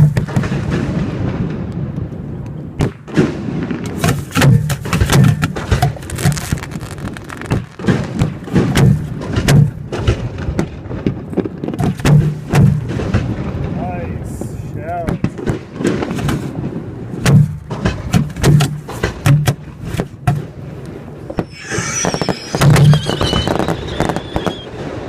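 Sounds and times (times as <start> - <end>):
firework bangs: 0.0 - 25.0.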